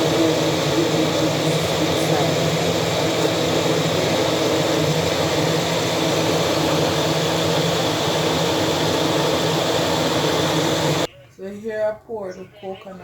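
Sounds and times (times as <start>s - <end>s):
electric motor humming: 0.0s - 11.1s.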